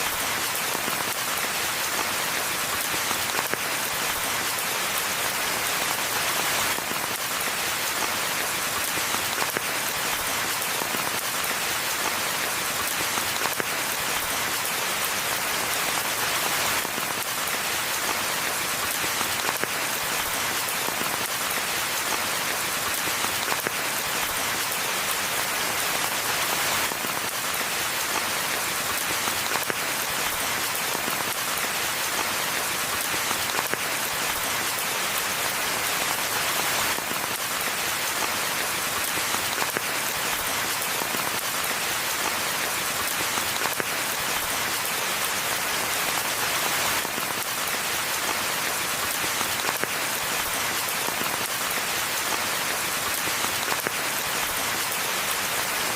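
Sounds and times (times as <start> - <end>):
rain falling on forest floor: 0.0 - 55.9.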